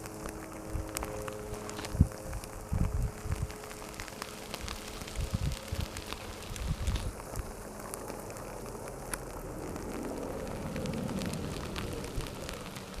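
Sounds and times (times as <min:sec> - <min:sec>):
lava cracking: 0:00.0 - 0:13.0
lava hissing: 0:00.0 - 0:13.0
low rumble: 0:00.0 - 0:13.0.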